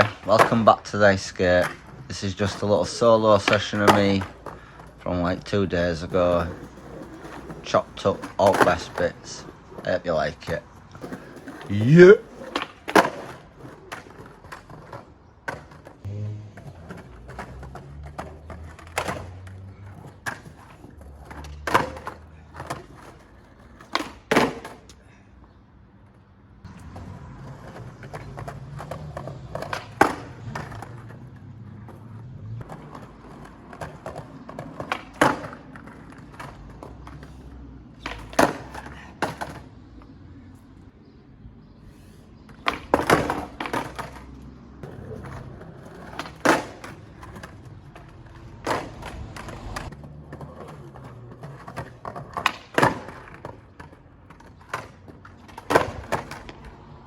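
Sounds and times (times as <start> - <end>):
skateboard clacks: 0.0 - 25.0, 26.6 - 41.1, 42.4 - 57.0
skateboard wheels rolling: 0.0 - 57.0.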